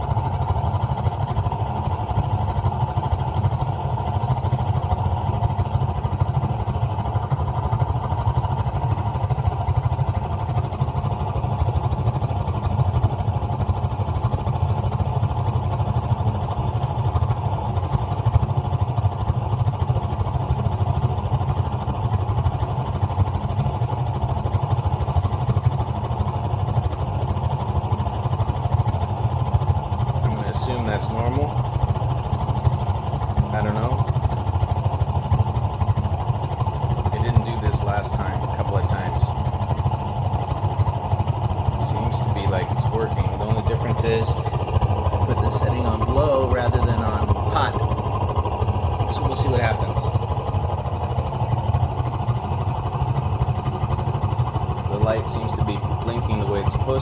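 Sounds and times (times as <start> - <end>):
gas water heater burner rumbling: 0.0 - 57.0.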